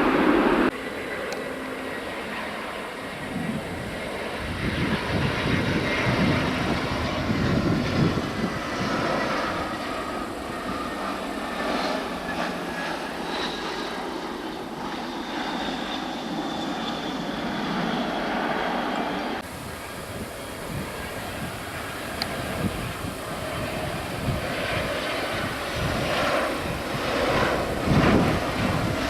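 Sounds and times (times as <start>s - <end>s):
jet engines passing: 0.0s - 29.0s.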